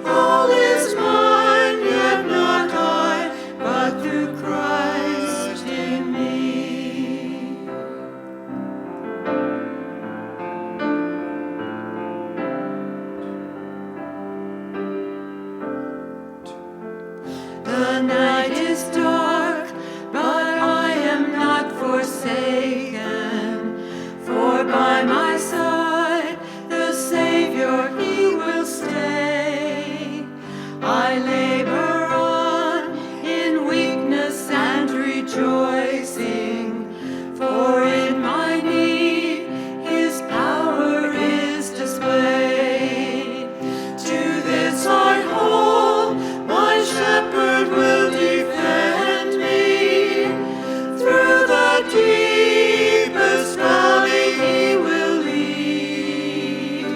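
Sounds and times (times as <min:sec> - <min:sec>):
person singing with vibrato: 0:00.0 - 0:08.0, 0:17.5 - 0:56.9.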